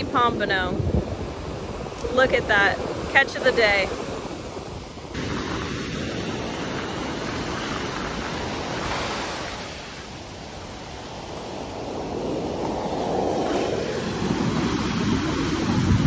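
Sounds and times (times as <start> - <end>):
ocean surf breaking: 0.0 - 16.0
wind rumbling on microphone: 0.0 - 16.0.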